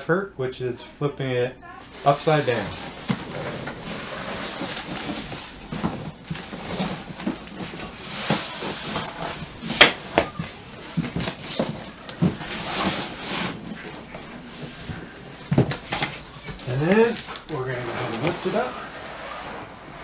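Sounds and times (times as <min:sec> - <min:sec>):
cardboard scraping and rustling: 0:01.8 - 0:20.0.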